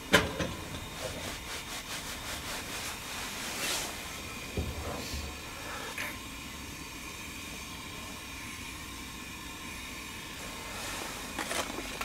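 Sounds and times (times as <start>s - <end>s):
gas hiss: 0.0s - 12.0s.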